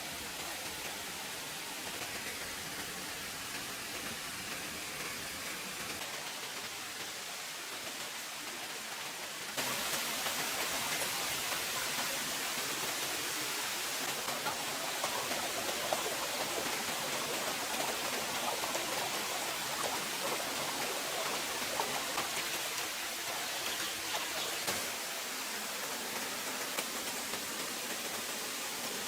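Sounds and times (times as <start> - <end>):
running water hiss: 0.0 - 29.0.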